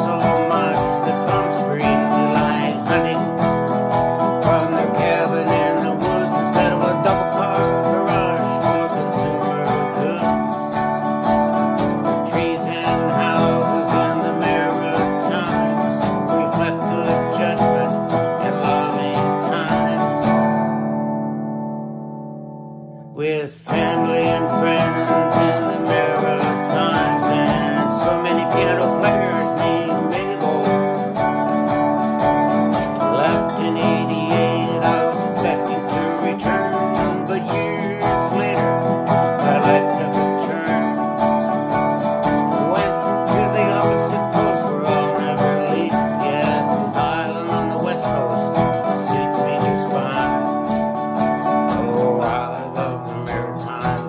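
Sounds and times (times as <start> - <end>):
man singing: 0.0 - 20.8, 23.1 - 54.0
acoustic guitar strumming: 0.0 - 54.0.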